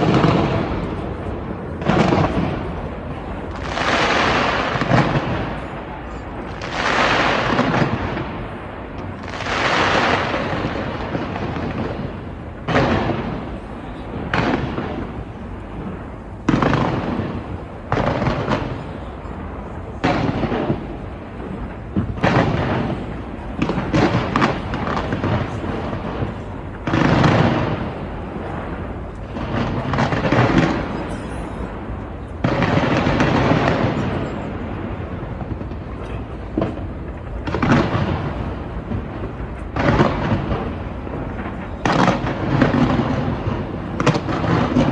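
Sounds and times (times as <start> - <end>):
firework booms: 0.0 - 44.9
small bangs and crackles: 0.0 - 44.9.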